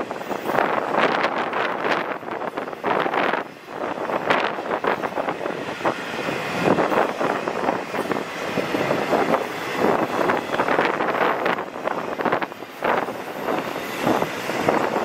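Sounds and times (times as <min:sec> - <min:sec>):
freight train wheels rumbling on rail: 0:00.0 - 0:15.0
train cars clicking and knocking: 0:00.0 - 0:15.0.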